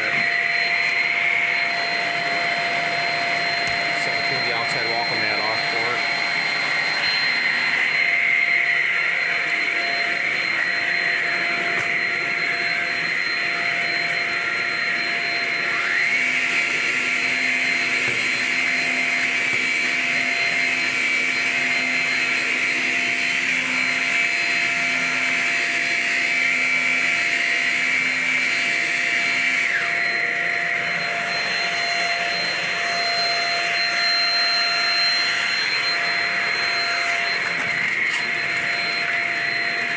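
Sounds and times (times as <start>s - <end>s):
stick vacuum motor whine: 0.0s - 39.9s.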